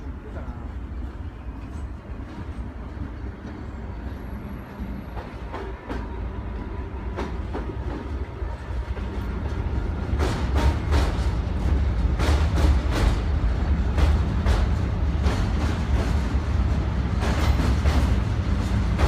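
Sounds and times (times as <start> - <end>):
train rumbling past: 0.0 - 19.0
wheels clacking over rail joints: 0.0 - 19.0.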